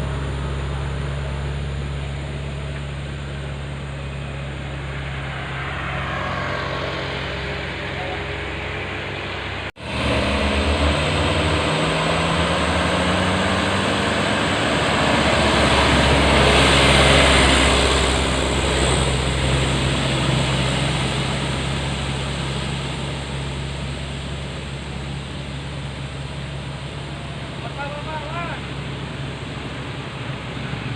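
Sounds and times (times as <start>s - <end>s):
dump truck diesel engine running: 0.0s - 30.9s.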